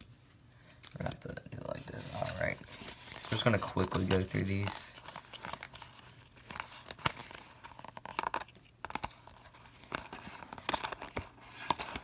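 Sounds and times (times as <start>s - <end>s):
trading cards rustling: 0.6s - 12.0s.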